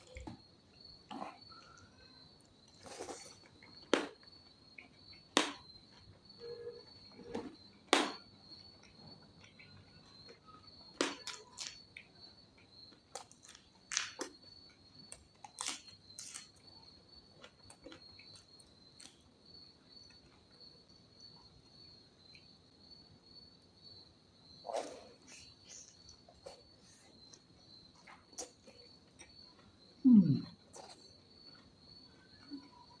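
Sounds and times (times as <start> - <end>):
person eating with crunches: 0.0 - 6.3, 7.1 - 19.4, 24.6 - 33.0
crickets chirring: 0.0 - 33.0.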